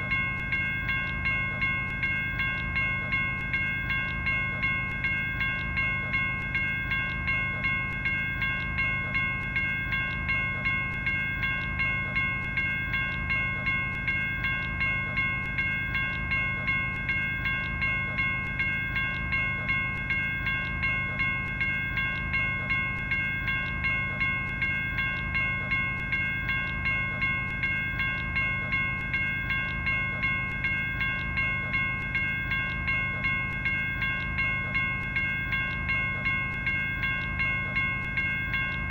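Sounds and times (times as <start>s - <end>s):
railroad crossing bell ringing: 0.0s - 38.9s.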